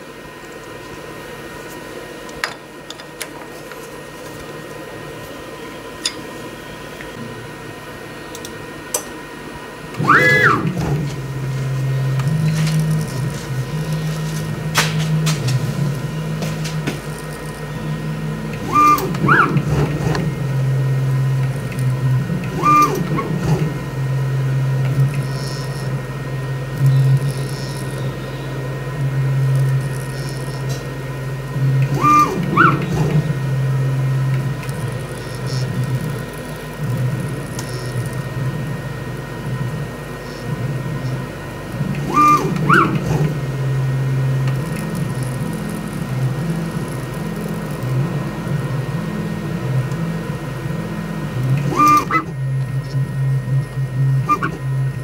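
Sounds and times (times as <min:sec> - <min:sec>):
machine whine: 0:00.0 - 0:55.0
milling machine hum: 0:00.0 - 0:55.0.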